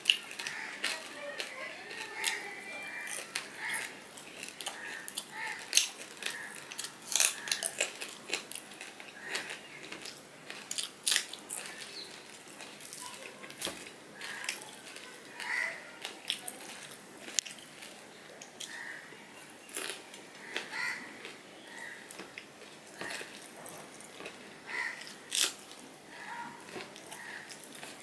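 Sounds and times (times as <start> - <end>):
crunching while chewing: 0.0 - 28.0.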